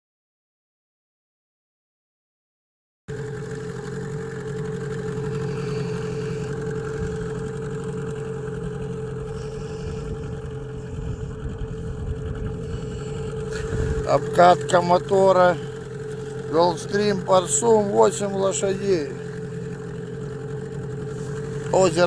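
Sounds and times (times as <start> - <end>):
outboard motor running: 3.1 - 22.0.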